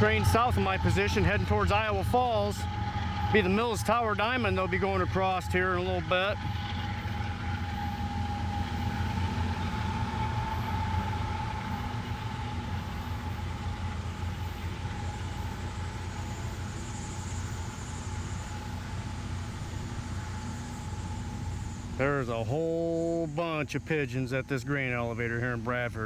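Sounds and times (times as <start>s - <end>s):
diesel train engine hum: 0.0s - 26.0s
thin steady whine: 0.0s - 26.0s.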